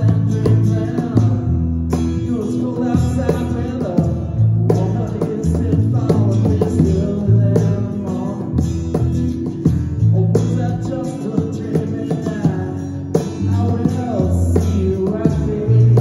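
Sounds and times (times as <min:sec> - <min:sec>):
cajon beat: 0:00.0 - 0:16.0
electric bass: 0:00.0 - 0:16.0
strummed acoustic guitar: 0:00.0 - 0:16.0.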